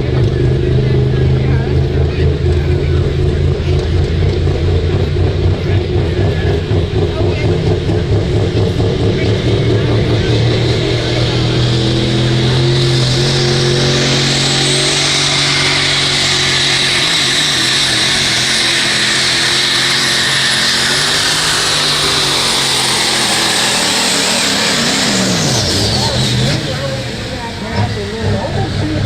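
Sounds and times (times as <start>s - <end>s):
truck engine running flat out: 0.0s - 29.0s
turbocharger whine: 0.0s - 29.0s.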